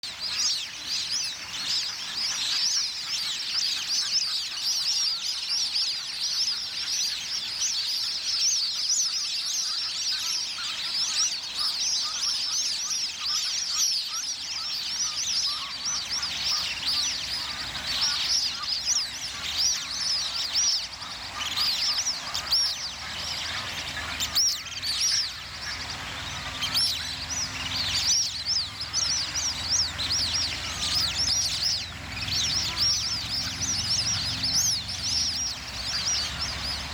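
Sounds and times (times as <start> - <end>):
ducks whistling: 0.0 - 36.9.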